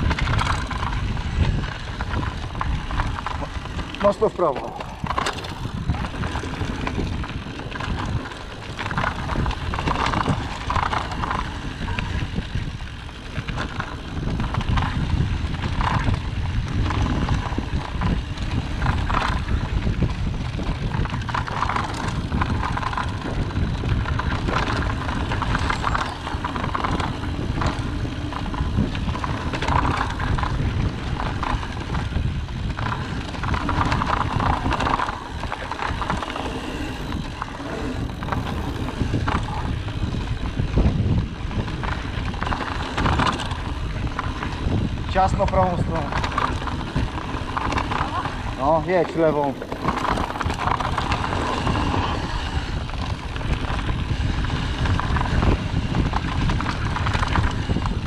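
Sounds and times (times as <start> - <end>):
bike rattling and knocking: 0.0 - 58.0
tyres rolling on dirt: 0.0 - 58.0
wind on microphone: 0.0 - 58.0.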